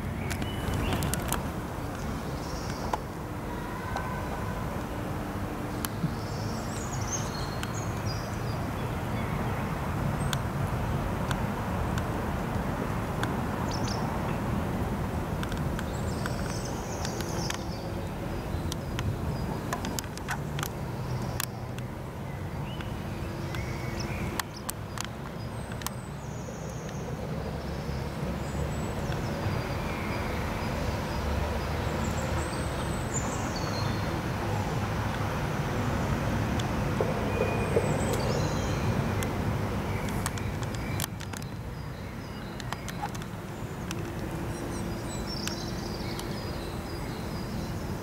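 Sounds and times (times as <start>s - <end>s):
distant traffic rumble: 0.0s - 48.0s.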